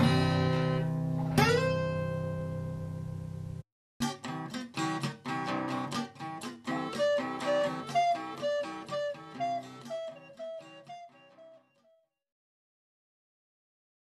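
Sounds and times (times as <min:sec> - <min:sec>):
guitar strumming and plucking: 0:00.0 - 0:11.9.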